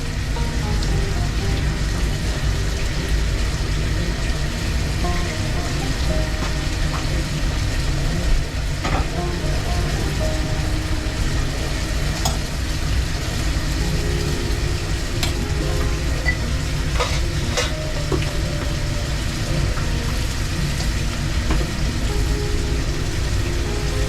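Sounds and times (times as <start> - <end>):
food frying hiss: 0.0 - 24.0.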